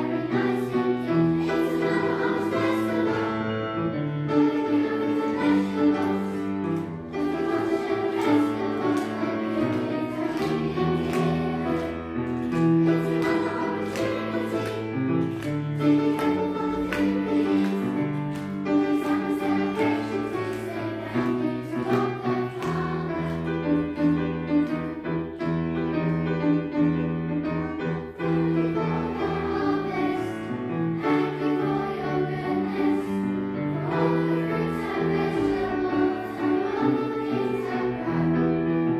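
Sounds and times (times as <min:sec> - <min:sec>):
children's choir singing: 0:00.0 - 0:38.9
instrumental accompaniment: 0:00.0 - 0:38.9.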